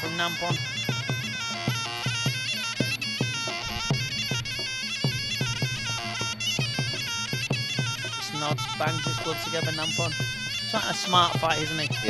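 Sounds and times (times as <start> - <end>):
drum strokes: 0.0 - 12.0
reedy oboe melody: 0.0 - 12.0.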